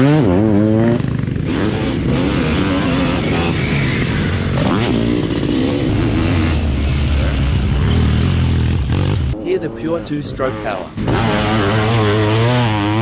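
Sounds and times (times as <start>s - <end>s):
two-stroke engine revving hard: 0.0s - 9.4s, 11.0s - 13.0s.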